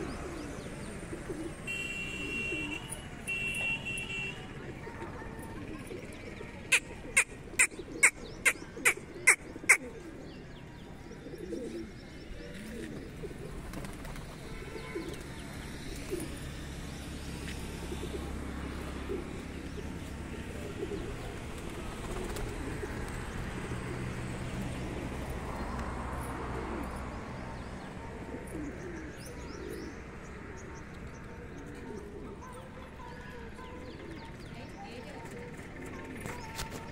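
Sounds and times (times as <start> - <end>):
pigeons cooing: 0.0 - 3.2, 4.1 - 34.5.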